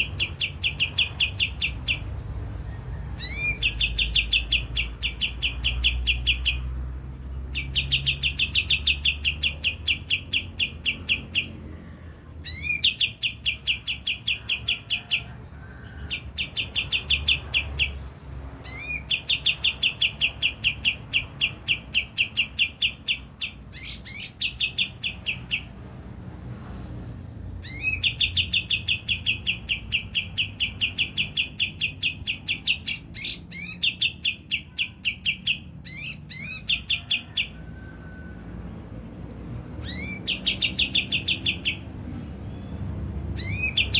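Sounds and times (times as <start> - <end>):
songbird chirping rapidly: 0.0 - 26.4, 27.1 - 43.9.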